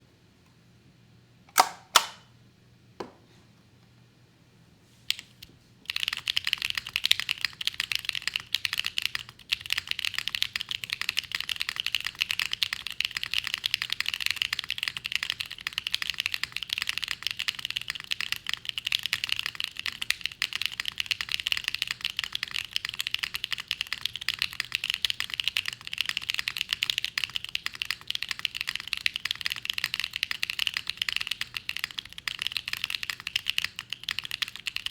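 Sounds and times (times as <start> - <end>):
mechanical keyboard typing: 5.1 - 34.9.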